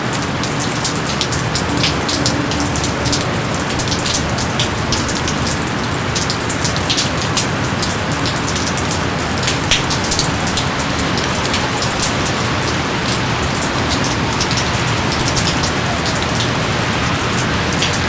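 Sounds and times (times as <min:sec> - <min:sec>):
heavy rain hiss: 0:00.0 - 0:18.0
sharp raindrop impacts: 0:00.0 - 0:18.0.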